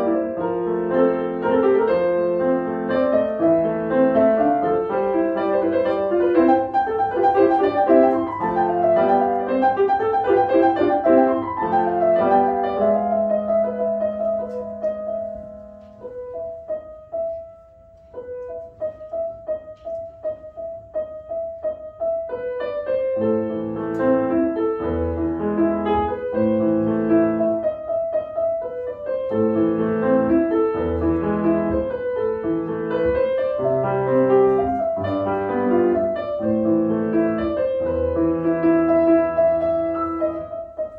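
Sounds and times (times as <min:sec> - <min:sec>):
solo grand piano piece: 0:00.0 - 0:40.9.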